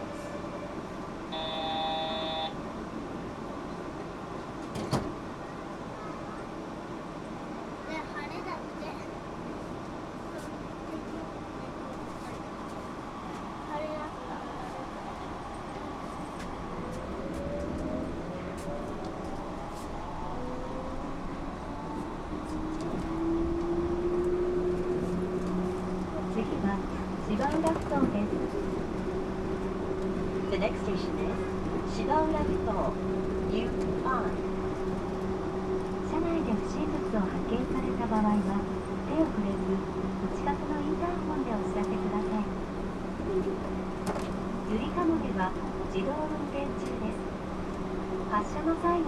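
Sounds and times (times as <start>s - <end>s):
train car interior hum: 0.0s - 49.0s.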